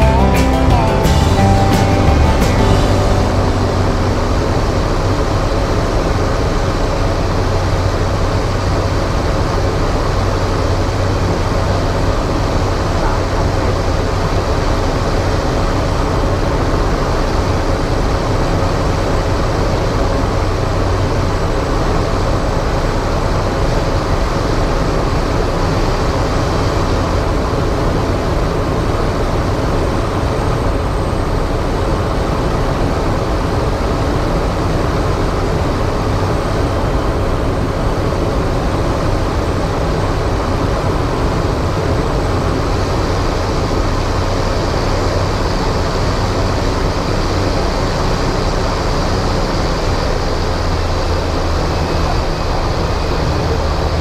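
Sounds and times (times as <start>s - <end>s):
turboprop engine drone: 2.1s - 54.0s.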